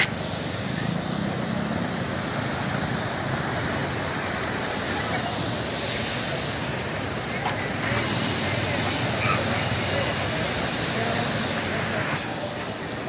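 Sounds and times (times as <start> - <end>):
road traffic: 0.0 - 13.0
rushing floodwater: 0.0 - 13.0.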